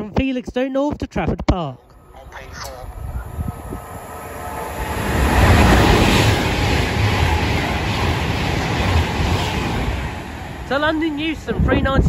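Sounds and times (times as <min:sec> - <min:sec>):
freight train passing: 0:01.9 - 0:12.0.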